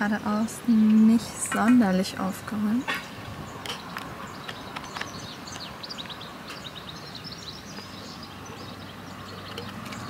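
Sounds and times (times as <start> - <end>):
background noise: 0.0 - 10.0
small birds chirping: 0.0 - 10.0.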